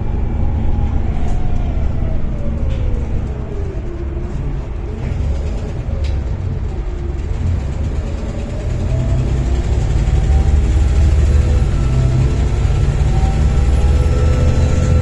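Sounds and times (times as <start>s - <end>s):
bus diesel engine pulling: 0.0s - 15.0s.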